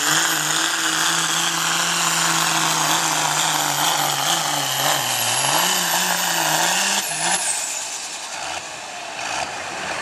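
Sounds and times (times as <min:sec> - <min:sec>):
diesel engine at full throttle: 0:00.0 - 0:10.0.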